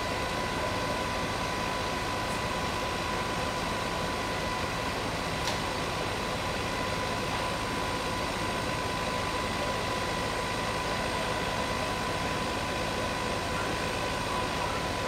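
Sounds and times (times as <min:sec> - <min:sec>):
constant high whine: 0:00.0 - 0:15.0
fire engines running: 0:00.0 - 0:15.0
fire rumble and hiss: 0:00.0 - 0:15.0.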